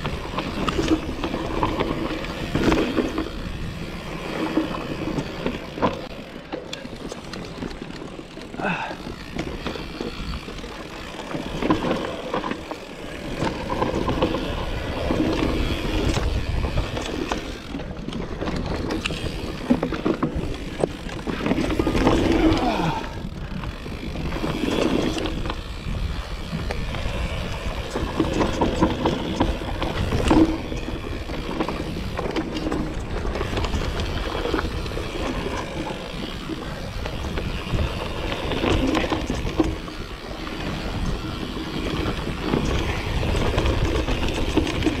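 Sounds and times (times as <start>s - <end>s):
bike knocking and rattling: 0.0s - 45.0s
tyres rumbling over dirt: 0.0s - 45.0s.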